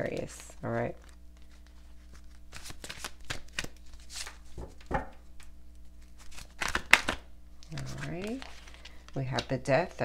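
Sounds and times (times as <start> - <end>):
cards rustling and slapping: 0.0 - 9.6.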